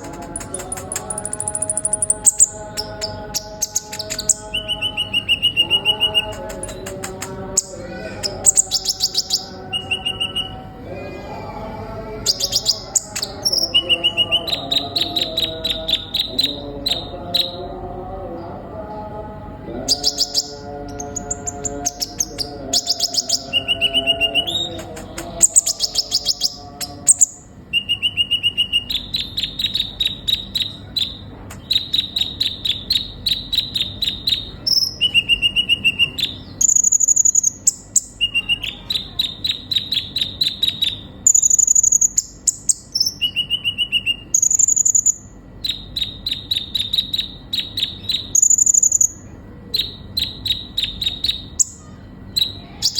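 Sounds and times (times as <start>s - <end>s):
sunbird singing: 0.0s - 52.9s.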